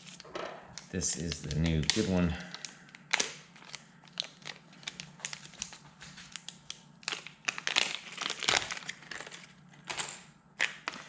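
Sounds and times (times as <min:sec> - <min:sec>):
wrapping crinkling: 0:00.0 - 0:09.9.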